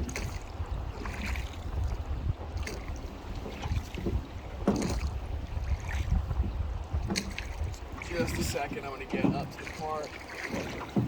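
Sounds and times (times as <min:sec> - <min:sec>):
knocks and splashes: 0:00.0 - 0:11.0
river water flowing: 0:00.0 - 0:11.0
wind rumbling on microphone: 0:00.0 - 0:11.0.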